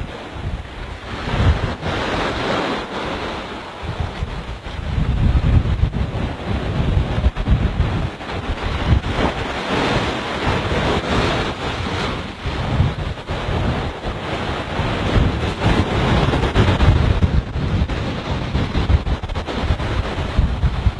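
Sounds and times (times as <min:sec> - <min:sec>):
small waves washing onto beach: 0:00.0 - 0:20.9
wind buffeting microphone: 0:00.0 - 0:20.9.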